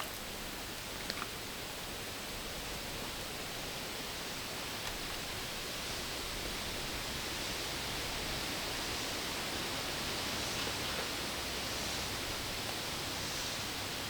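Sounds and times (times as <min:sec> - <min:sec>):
hiss of heavy water: 0:00.0 - 0:14.0.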